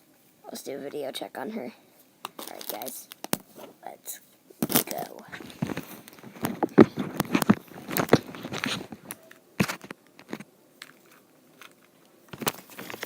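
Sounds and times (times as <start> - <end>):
crackling rustles: 1.9 - 13.0.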